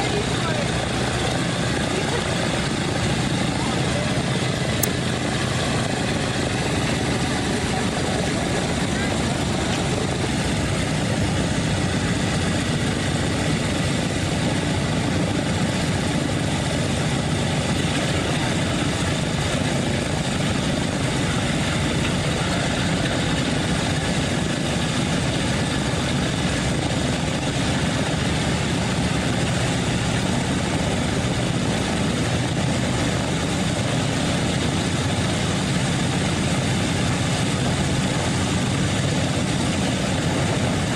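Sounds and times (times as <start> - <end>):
aircraft engines idling: 0.0 - 40.9.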